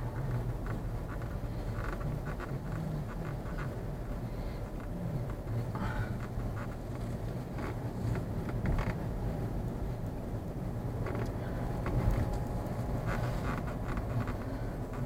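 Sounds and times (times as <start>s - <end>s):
car rumbling from inside cabin: 0.0s - 15.0s
short creaks: 0.1s - 9.1s, 11.0s - 15.0s.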